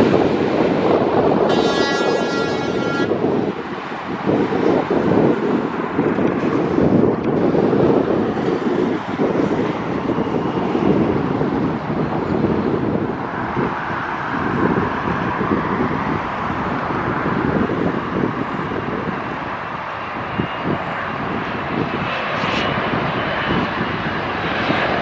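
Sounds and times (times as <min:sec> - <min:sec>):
jet airliner engines: 0:00.0 - 0:25.0
wind buffeting microphone: 0:00.0 - 0:25.0.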